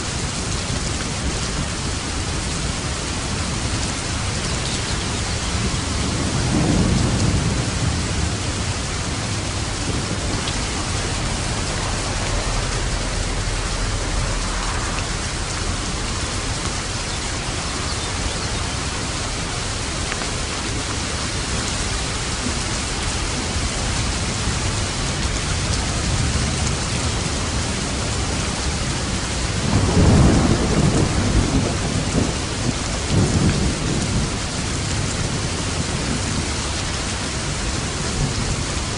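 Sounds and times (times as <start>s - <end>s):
steady rain falling: 0.0s - 38.9s
thunder rumbling: 0.1s - 38.9s.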